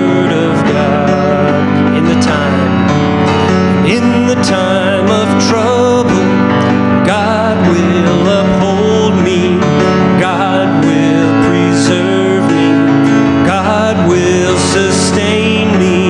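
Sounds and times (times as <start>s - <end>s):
acoustic guitar: 0.0s - 16.0s
man singing worship song: 0.0s - 16.0s.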